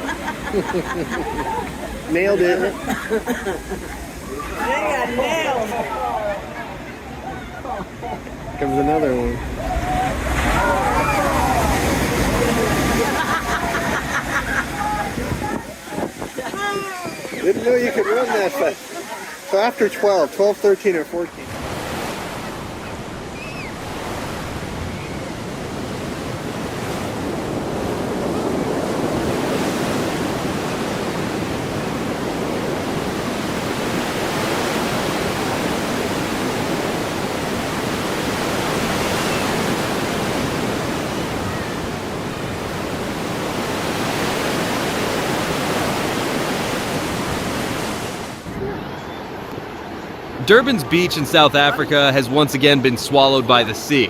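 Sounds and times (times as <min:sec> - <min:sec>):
heavy surf breaking: 0:00.0 - 0:54.0.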